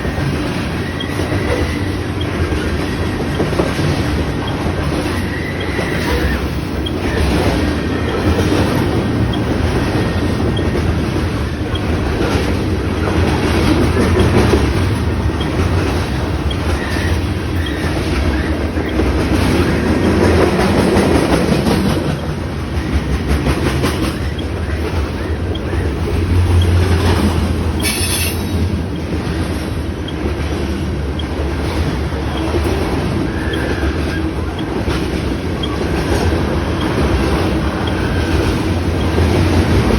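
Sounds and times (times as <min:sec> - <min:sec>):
wheel squeals: 0:00.0 - 0:30.4, 0:31.2 - 0:39.9
train wheels clacking on rail joints: 0:00.0 - 0:39.9.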